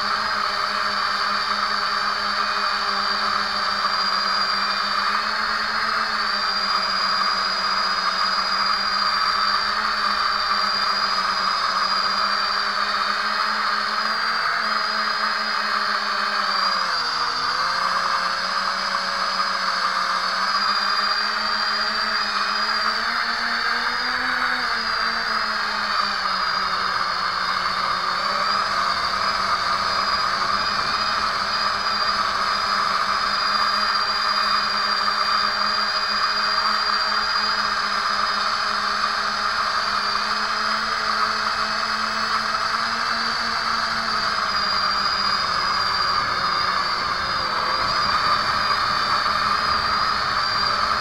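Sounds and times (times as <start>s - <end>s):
quadcopter motors whining: 0.0s - 51.0s.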